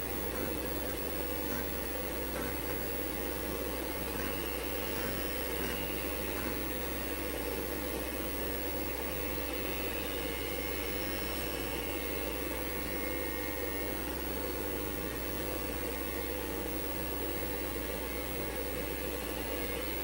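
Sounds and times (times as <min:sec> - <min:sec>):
computer fans and drives whirring: 0:00.0 - 0:20.0.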